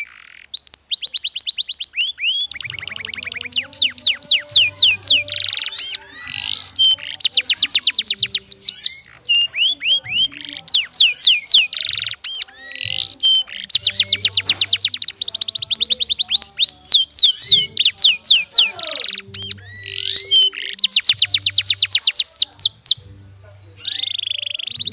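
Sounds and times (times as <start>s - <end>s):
canary singing fast trills: 0.0s - 24.9s.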